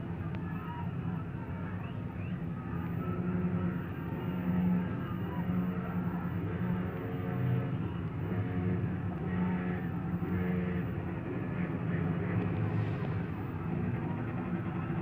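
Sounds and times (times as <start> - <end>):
distant city noise rumble: 0.0 - 15.0.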